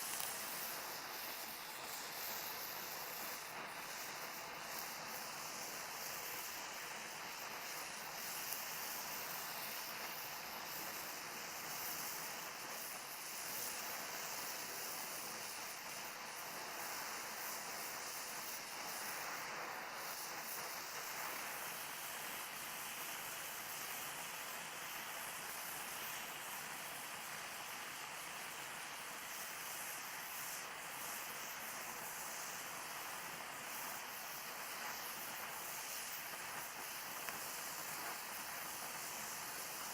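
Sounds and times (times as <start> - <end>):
welding torch flame hissing: 0.0 - 39.9.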